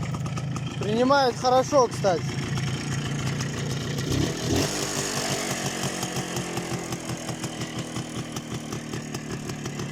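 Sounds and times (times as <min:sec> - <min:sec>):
two-stroke motorcycle engine idling: 0:00.0 - 0:09.9.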